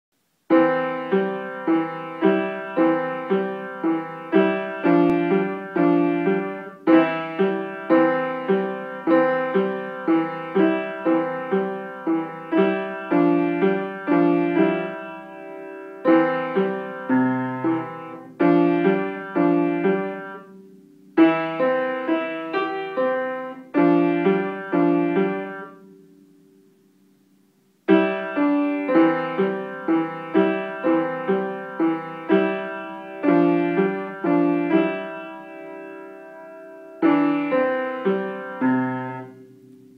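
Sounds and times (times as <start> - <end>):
upright piano melody: 0.3 - 26.8, 27.7 - 39.9.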